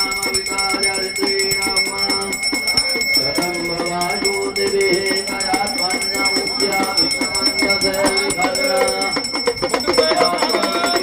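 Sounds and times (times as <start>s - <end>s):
bell-like ringing: 0.0s - 11.0s.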